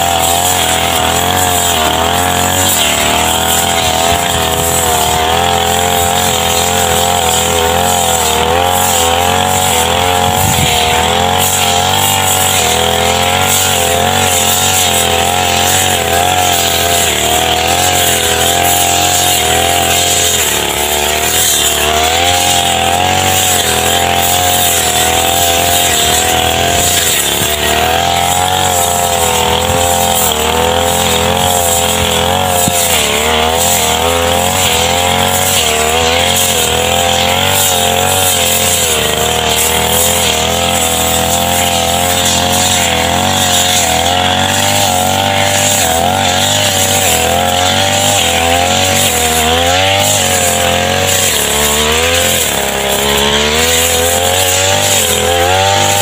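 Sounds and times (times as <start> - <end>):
brush cutter engine at high revs: 0.0 - 56.0.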